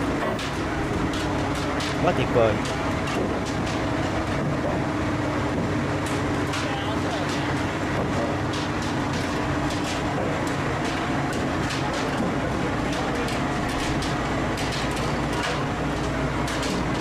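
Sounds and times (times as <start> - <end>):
heavy machine drone: 0.0 - 17.0.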